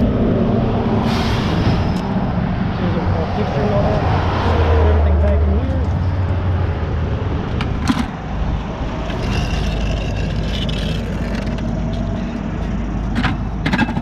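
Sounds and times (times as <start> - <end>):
passing vehicle whine: 0.0 - 14.0
road traffic rumble: 0.0 - 14.0.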